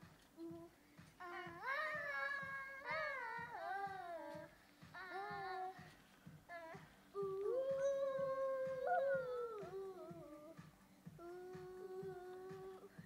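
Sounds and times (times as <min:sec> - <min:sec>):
soft regular beat: 0:00.0 - 0:13.0.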